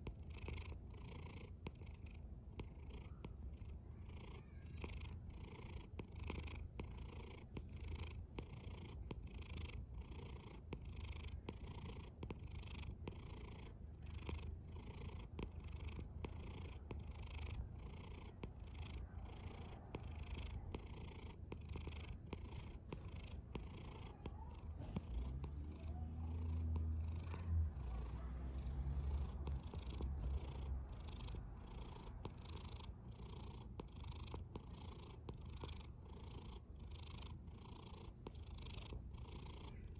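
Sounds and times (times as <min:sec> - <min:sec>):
cat snoring breathy hiss: 0:00.0 - 0:03.1, 0:05.3 - 0:39.9
cat purring: 0:00.0 - 0:39.9.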